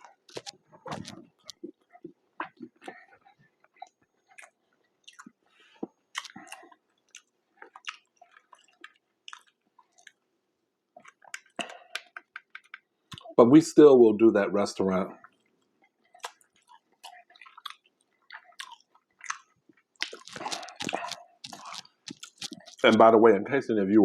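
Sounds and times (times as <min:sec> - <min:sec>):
person chewing and smacking: 0:00.0 - 0:10.3, 0:10.9 - 0:13.4, 0:15.2 - 0:23.0.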